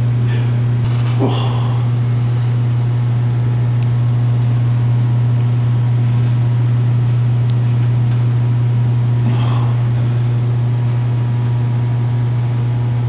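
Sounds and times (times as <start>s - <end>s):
loud steady low hum: 0.0s - 13.0s.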